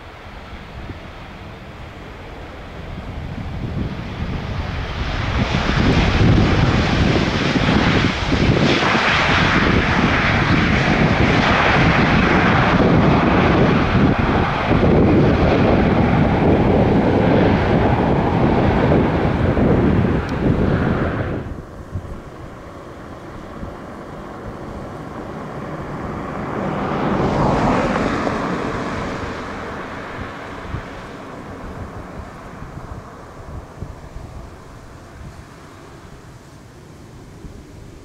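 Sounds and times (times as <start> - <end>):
jet airliner engine rush: 0.0 - 38.0.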